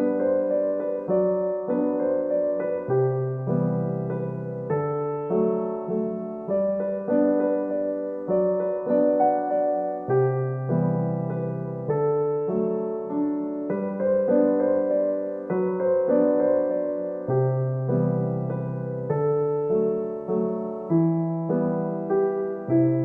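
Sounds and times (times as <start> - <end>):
soft electric piano chords: 0.0 - 23.0.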